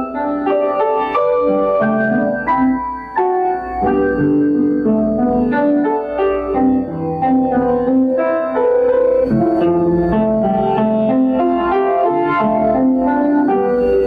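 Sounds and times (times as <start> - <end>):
piano playing: 0.0 - 14.0.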